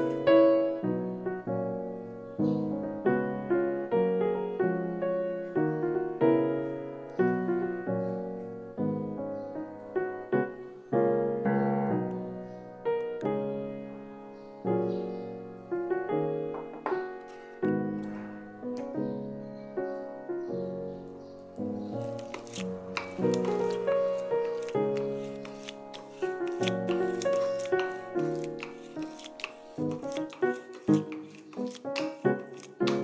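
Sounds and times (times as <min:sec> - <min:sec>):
slow piano music: 0:00.0 - 0:33.0.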